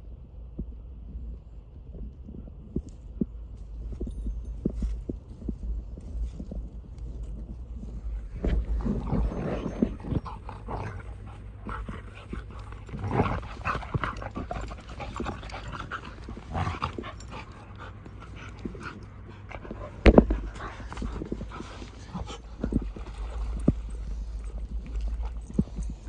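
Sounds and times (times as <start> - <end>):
dogs panting: 3.6 - 26.0.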